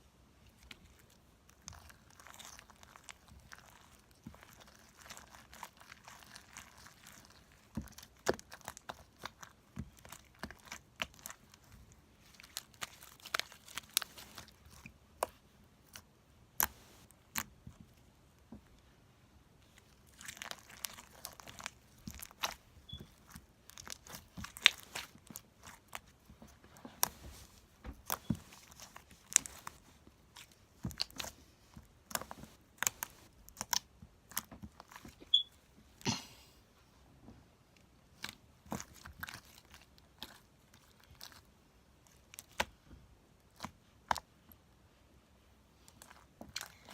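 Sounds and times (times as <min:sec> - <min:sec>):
slime squishes: 0:00.3 - 0:36.0, 0:37.7 - 0:44.9, 0:45.6 - 0:46.9.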